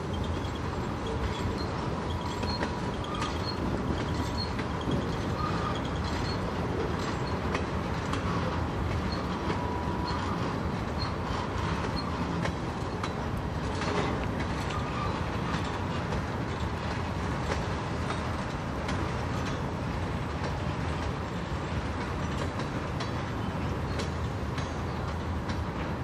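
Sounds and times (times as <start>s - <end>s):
freight train rumbling on rails: 0.0s - 26.0s
train wheel clicks: 0.0s - 26.0s.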